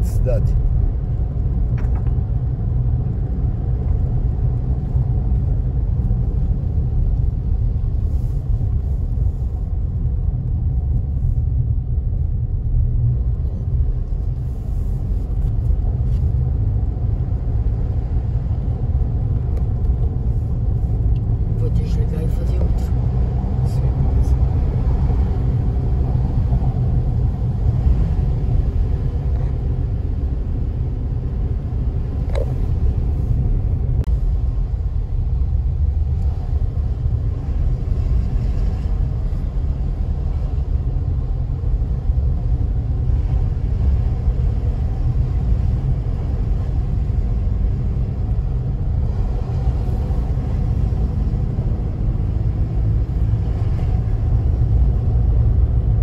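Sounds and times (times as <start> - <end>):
car driving interior rumble: 0.0 - 56.0.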